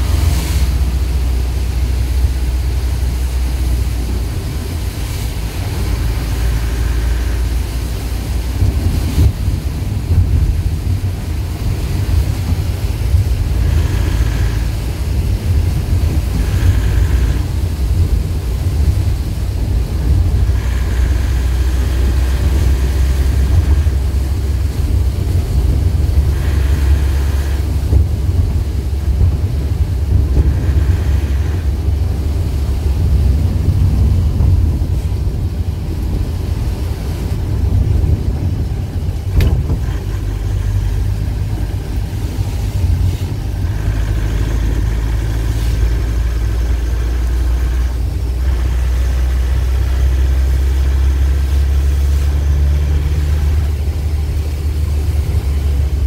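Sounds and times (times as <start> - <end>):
engine and tyres rumbling: 0.0 - 56.0
rain and spray hissing: 0.0 - 56.0.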